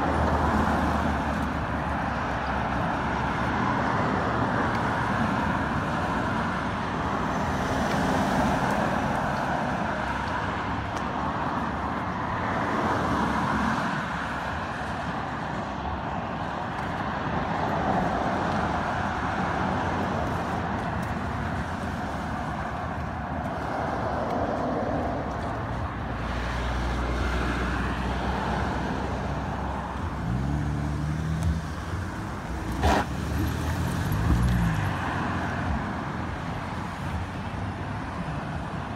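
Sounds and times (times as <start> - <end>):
cars passing by: 0.0 - 38.9.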